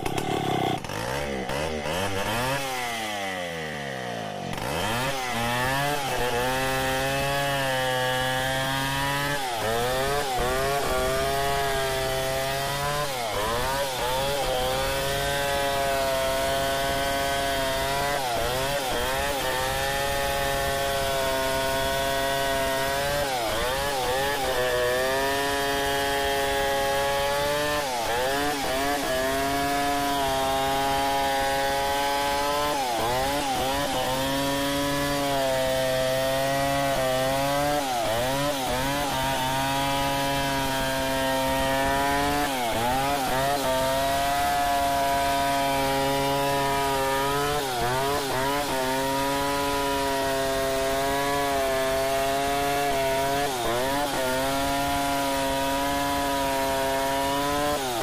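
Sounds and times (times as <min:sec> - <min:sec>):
chainsaw cutting through a log: 0:00.0 - 0:58.0.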